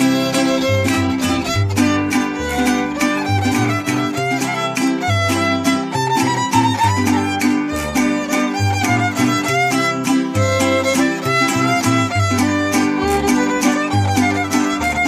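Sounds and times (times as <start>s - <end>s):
bass notes: 0.0s - 15.0s
strummed guitar: 0.0s - 15.0s
violin playing lively melody: 0.0s - 15.0s.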